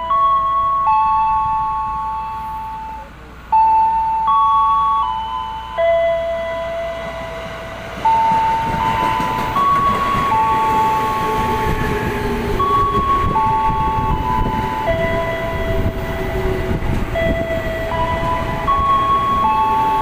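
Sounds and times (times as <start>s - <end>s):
electronic loudspeaker chime melody: 0.0s - 12.0s, 12.6s - 20.0s
electric train pulling in: 0.0s - 20.0s.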